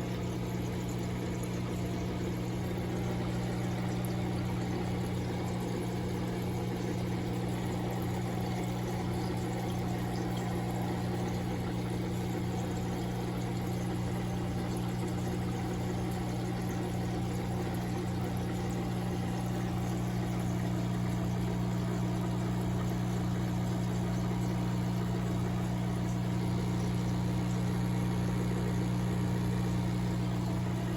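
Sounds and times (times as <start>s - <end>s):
aquarium pump humming: 0.0s - 30.9s.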